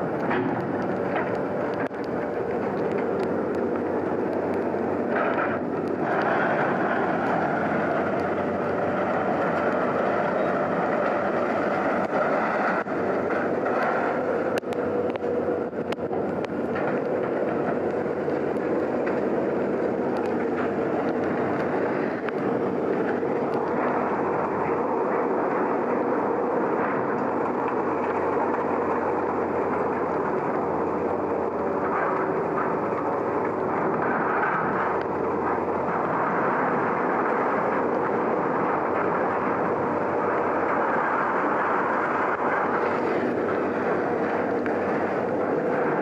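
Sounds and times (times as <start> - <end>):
faint clicks and knocks: 0.0 - 46.0
heavy machinery rumble: 0.0 - 46.0.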